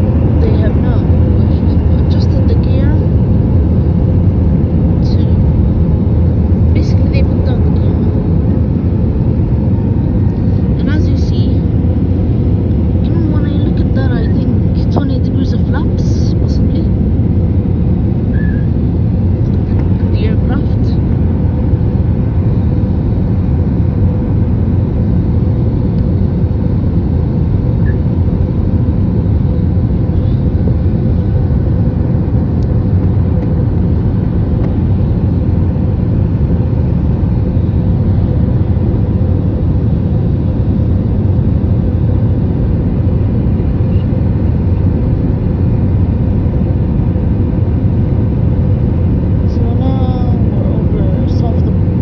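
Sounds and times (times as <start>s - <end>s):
airliner engines rumbling: 0.0s - 52.0s
steady hum: 0.0s - 52.0s.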